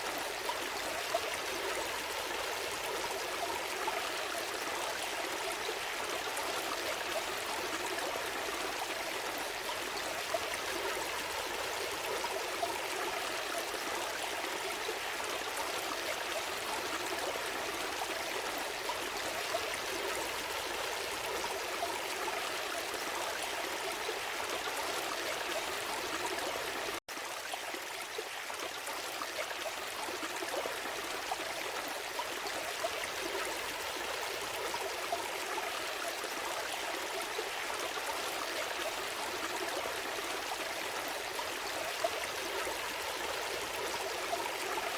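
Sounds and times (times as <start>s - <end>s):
stream flowing: 0.0s - 44.9s.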